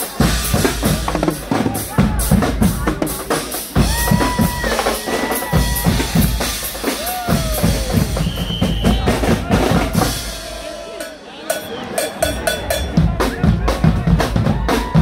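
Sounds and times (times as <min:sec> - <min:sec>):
drums and cymbals pounding: 0:00.0 - 0:15.0.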